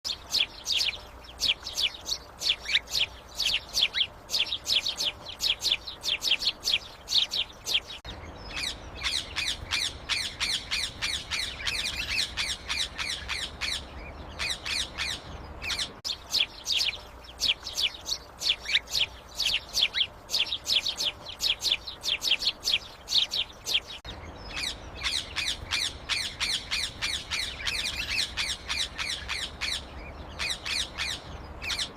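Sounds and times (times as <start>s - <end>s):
small birds chattering: 0.1s - 31.9s.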